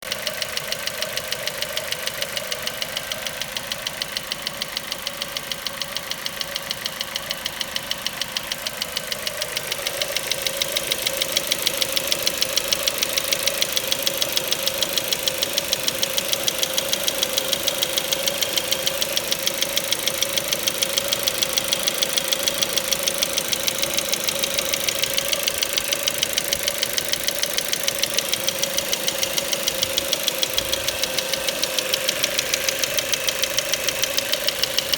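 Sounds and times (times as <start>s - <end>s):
car engine running: 0.0s - 34.9s
rapid engine knock: 0.0s - 34.9s.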